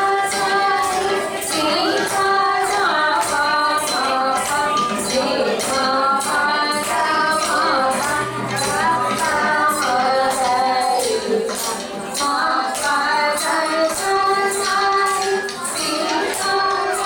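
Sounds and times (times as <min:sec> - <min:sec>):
jingling percussion beat: 0:00.0 - 0:17.0
woman singing: 0:00.0 - 0:17.0.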